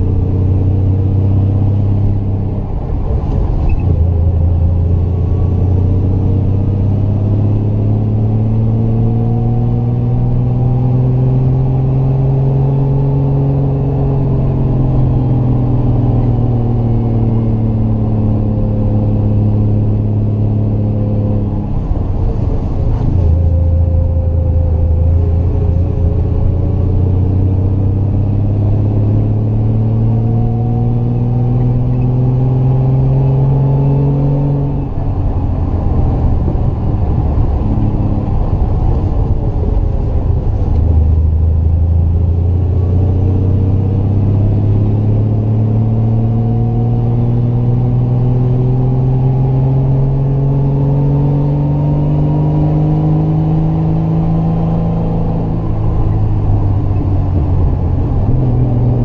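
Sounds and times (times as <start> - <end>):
car engine revving uphill: 0.0 - 59.0.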